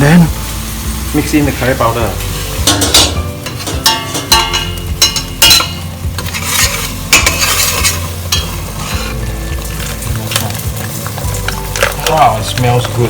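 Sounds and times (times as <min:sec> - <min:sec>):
paste sizzling in a pot: 0:00.0 - 0:13.0
utensil scraping a pot: 0:02.1 - 0:13.0.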